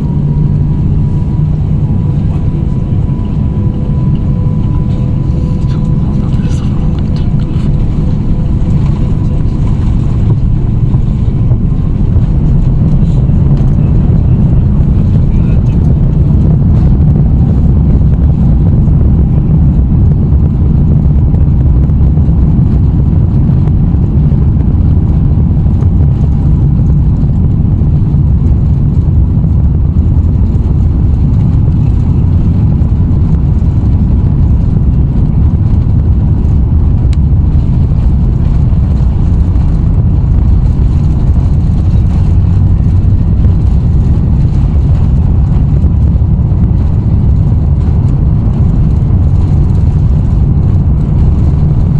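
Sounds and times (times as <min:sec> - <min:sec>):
jet engines rumbling in cabin: 0:00.0 - 0:51.9.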